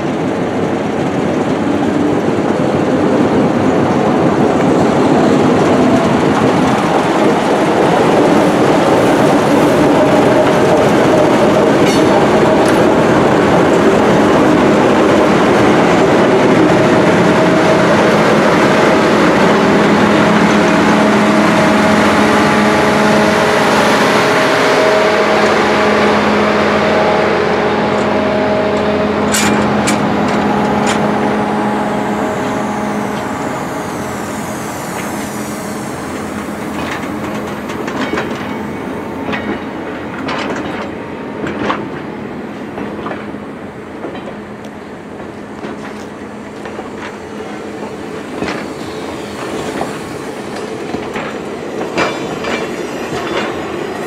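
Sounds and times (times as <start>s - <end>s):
train wheels clicking over rail joints: 0.0s - 24.8s, 28.8s - 54.0s.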